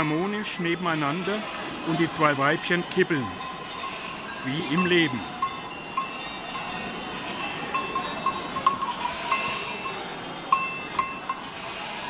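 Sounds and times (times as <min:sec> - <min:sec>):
goat bell clanking: 0:00.0 - 0:12.0.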